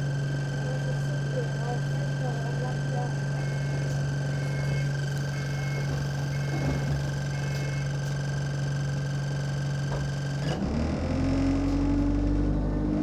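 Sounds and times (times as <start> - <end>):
bus engine idling with whine: 0.0 - 13.0.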